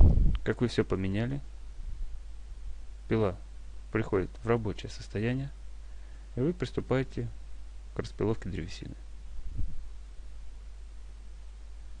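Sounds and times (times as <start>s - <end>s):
background hiss: 0.0s - 12.0s
low hum: 0.0s - 12.0s.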